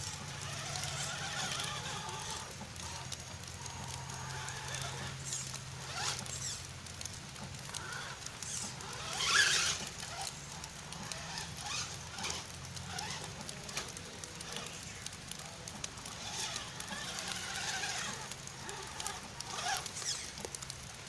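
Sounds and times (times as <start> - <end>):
rc car electric motor whining: 0.0 - 20.6.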